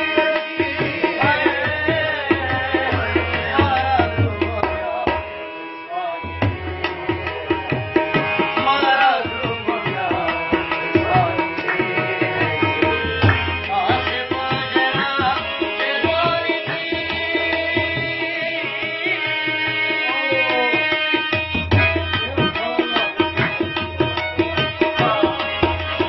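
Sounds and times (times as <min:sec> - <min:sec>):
harmonium melody: 0:00.0 - 0:26.0
rabab melody: 0:00.0 - 0:26.0
tabla beating: 0:00.0 - 0:26.0.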